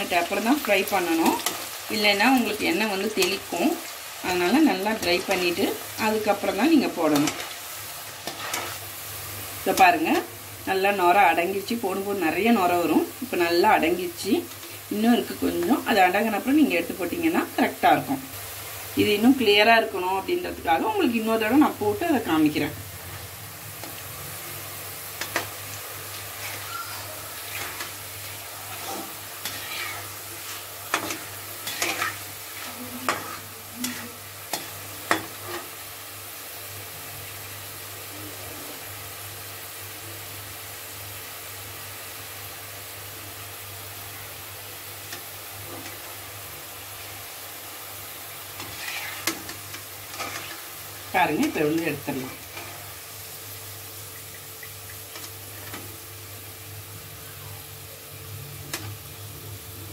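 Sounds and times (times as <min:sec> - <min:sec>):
beans sizzling in hot oil: 0:00.0 - 0:59.9.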